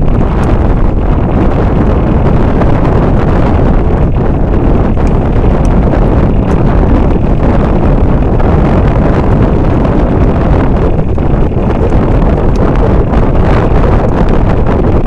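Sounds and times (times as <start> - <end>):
boat rumble: 0.0 - 15.0
wind buffeting microphone: 0.0 - 15.0.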